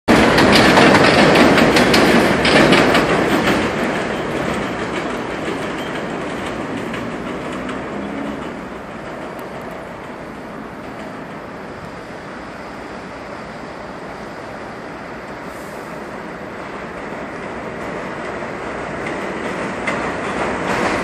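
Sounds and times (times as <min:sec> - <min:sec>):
subway train wheels clacking: 0:00.1 - 0:21.0
train rumble: 0:00.1 - 0:21.0.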